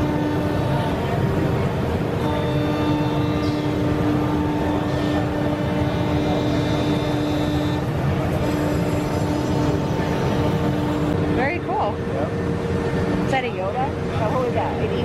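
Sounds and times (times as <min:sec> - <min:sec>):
exhibition hall din: 0:00.0 - 0:15.0
woodworking machine hum: 0:00.0 - 0:15.0.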